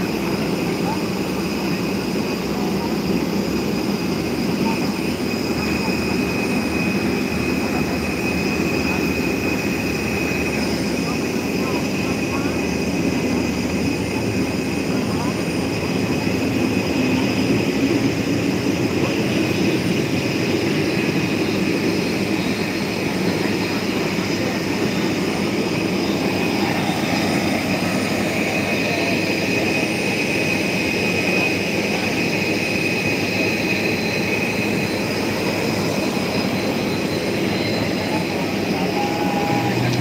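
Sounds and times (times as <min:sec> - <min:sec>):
jet engines with turbine whine: 0:00.0 - 0:40.0.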